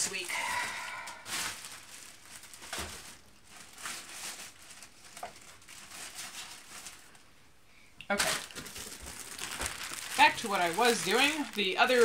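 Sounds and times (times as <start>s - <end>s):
plastic bags crinkling: 0.0s - 7.3s, 8.1s - 12.0s.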